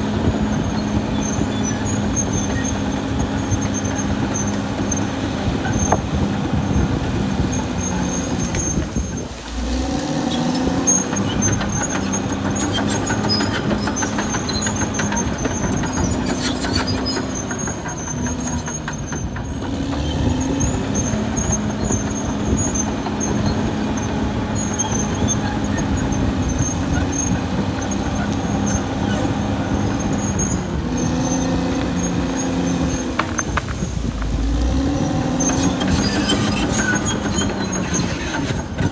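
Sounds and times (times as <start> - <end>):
bulldozer diesel engine under load: 0.0 - 38.9
steel tracks squealing and clanking: 0.0 - 38.9.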